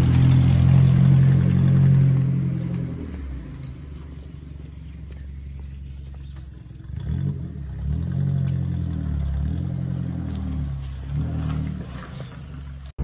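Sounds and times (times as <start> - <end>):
small car engine running: 0.0 - 13.0.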